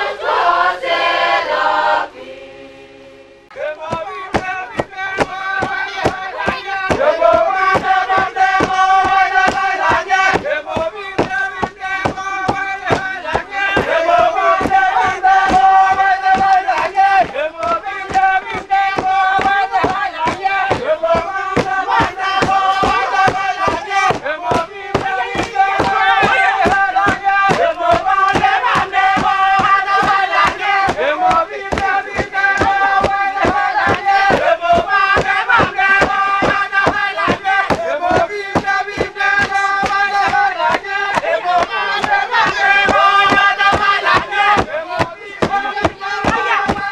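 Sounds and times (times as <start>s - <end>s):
group chanting: 0.0s - 46.9s
fast percussive beat: 3.8s - 46.9s.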